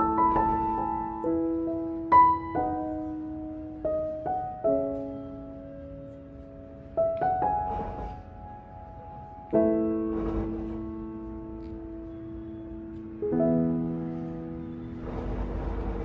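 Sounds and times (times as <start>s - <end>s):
slow soft piano music: 0.0s - 16.0s.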